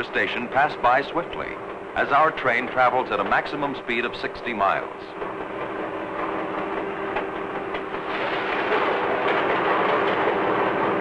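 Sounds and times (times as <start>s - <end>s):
freight train wheels on rails: 0.0s - 11.0s.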